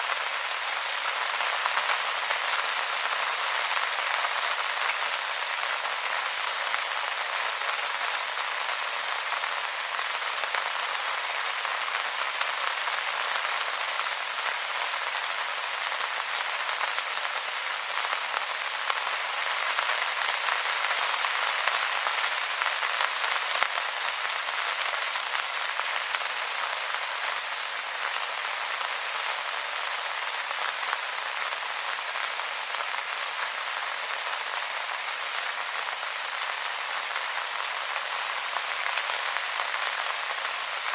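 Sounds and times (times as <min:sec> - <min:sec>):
rain falling on wet leaves: 0:00.0 - 0:40.9.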